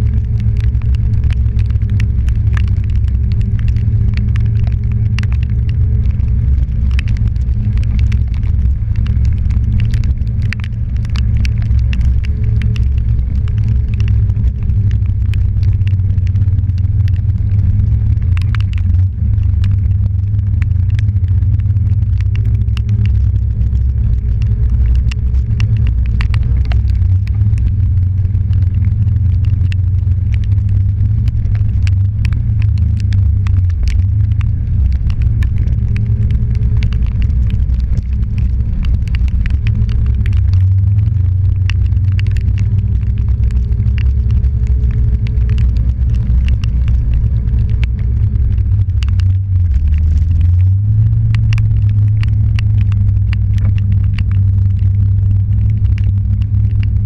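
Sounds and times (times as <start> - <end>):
sharp little ticks: 0.0 - 57.0
vehicle engine rumbling: 0.0 - 57.0.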